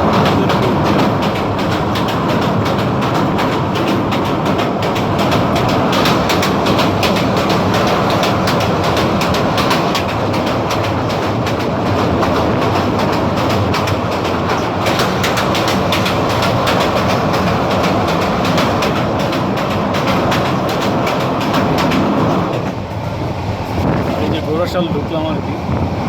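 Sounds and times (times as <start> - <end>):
train rumbling: 0.0 - 26.0
train wheels clattering on track: 0.0 - 26.0.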